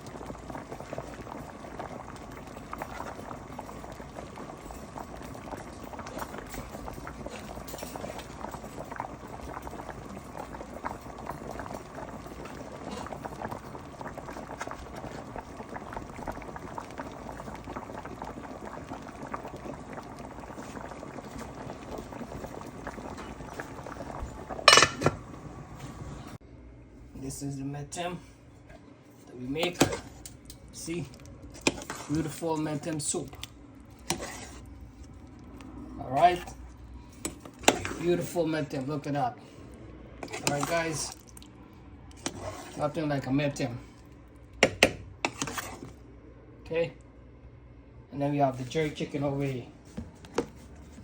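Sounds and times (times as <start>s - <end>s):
soup bubbling at a boil: 0.0s - 26.3s, 29.6s - 47.2s.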